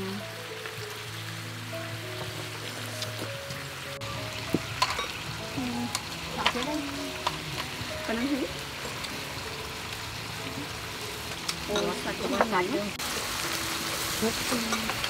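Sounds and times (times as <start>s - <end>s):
meat sizzling on grill pan: 0.0s - 15.0s.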